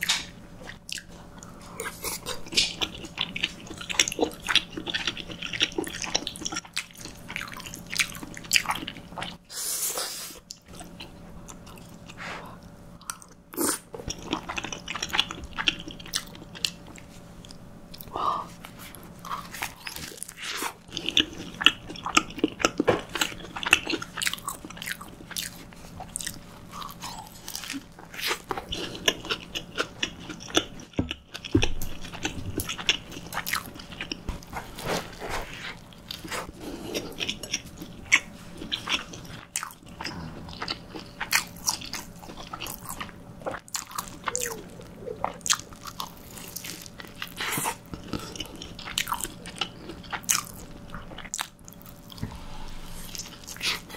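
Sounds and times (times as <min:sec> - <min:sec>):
chewing with soft crunches: 0:00.0 - 0:09.4, 0:10.4 - 0:53.9.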